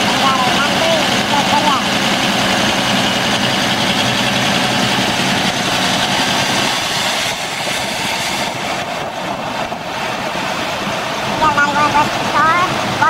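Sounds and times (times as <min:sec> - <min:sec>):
large engine idling: 0:00.0 - 0:13.0.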